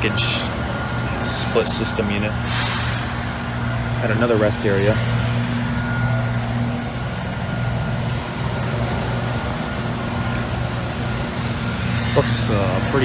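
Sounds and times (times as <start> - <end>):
fan air rushing: 0.0 - 6.6, 8.1 - 13.0.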